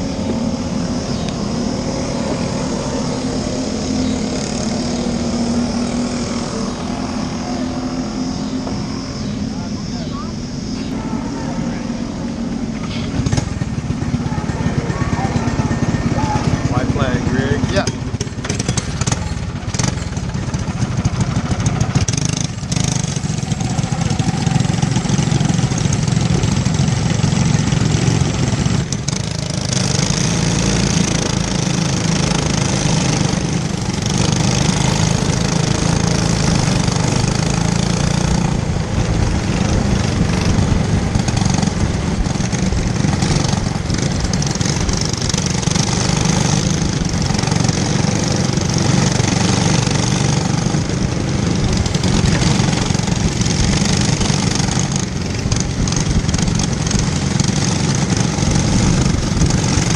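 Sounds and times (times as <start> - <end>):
racing kart engines: 0.0 - 59.9.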